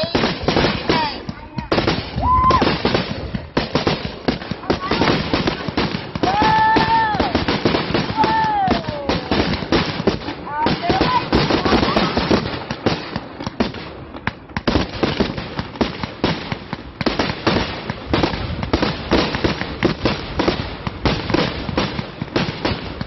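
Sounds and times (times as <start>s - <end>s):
fireworks cracking and banging: 0.0s - 23.0s.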